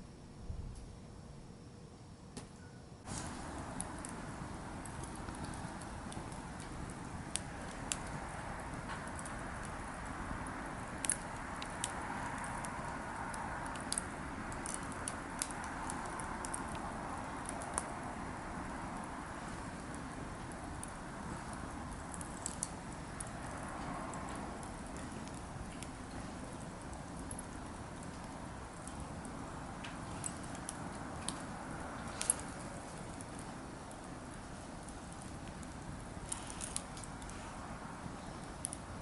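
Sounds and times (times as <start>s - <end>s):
campfire crackling and popping: 2.4s - 39.0s.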